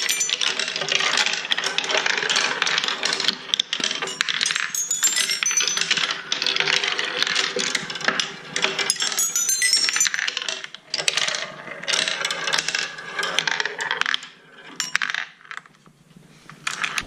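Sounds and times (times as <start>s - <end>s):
marbles rolling on wooden tracks: 0.0s - 15.8s.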